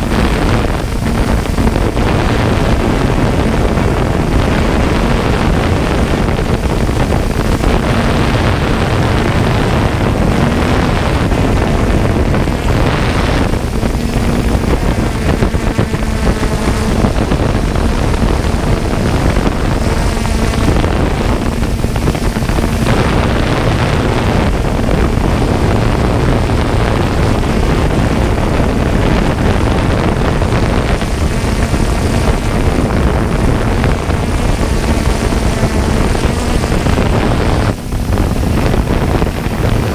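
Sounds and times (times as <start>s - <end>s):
drone propellers whirring: 0.0s - 39.9s
wind buffeting microphone: 0.0s - 39.9s.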